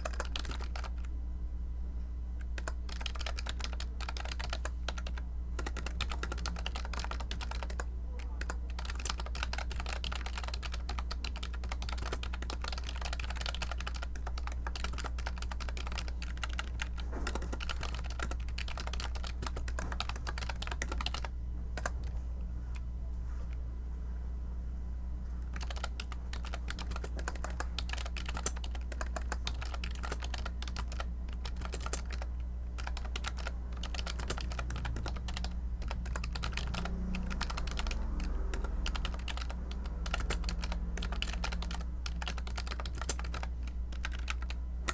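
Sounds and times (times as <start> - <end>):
fast keyboard typing: 0.0 - 1.1, 2.4 - 22.2, 25.4 - 44.9
steady low hum: 0.0 - 44.9.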